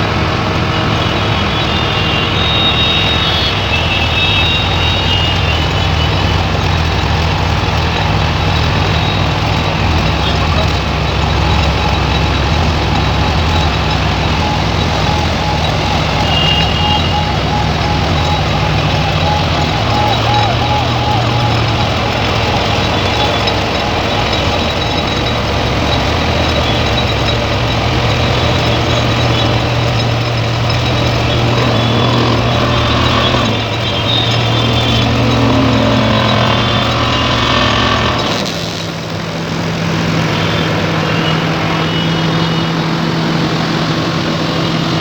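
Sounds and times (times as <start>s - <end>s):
vibratory hammer hum with rattle: 0.0s - 45.0s.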